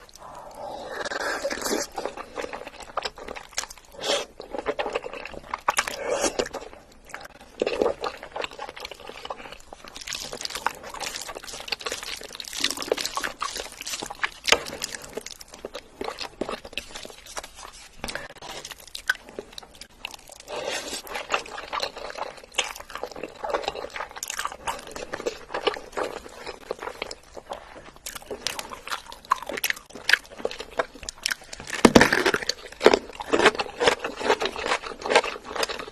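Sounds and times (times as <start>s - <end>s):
wet chewing with crunchy bites: 0.0s - 35.9s.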